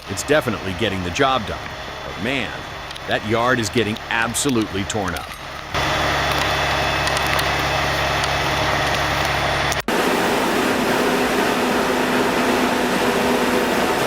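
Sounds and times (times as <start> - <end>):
heavy machine engine running: 0.0 - 14.0
steady machine noise: 0.0 - 14.0.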